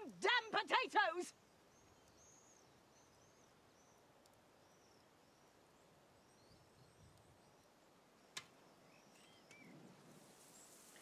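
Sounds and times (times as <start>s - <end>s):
small birds chirping: 1.2s - 11.0s.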